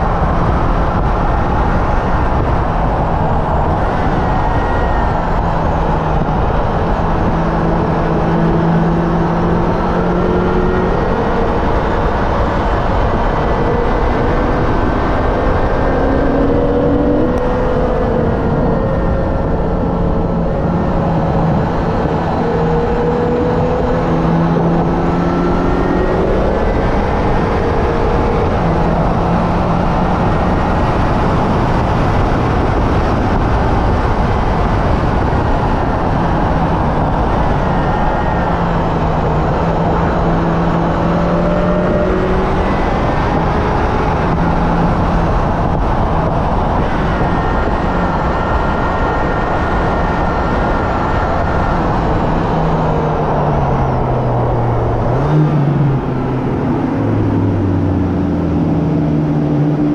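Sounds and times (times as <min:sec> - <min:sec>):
car engine running hard: 0:00.0 - 0:59.9
wind and road noise: 0:00.0 - 0:59.9.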